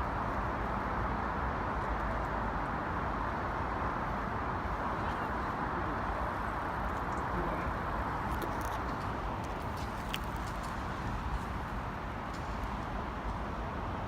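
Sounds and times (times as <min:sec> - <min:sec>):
distant city traffic: 0:00.0 - 0:14.0.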